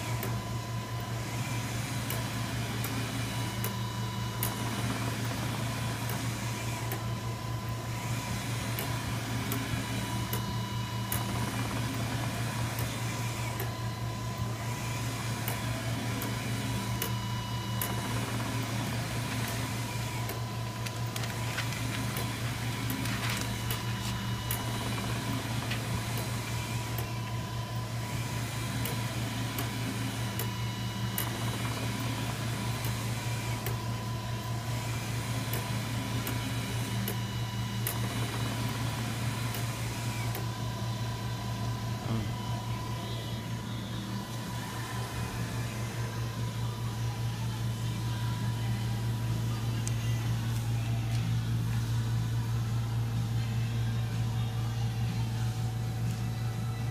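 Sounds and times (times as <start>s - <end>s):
printer mechanical hum and whine: 0.0s - 56.9s.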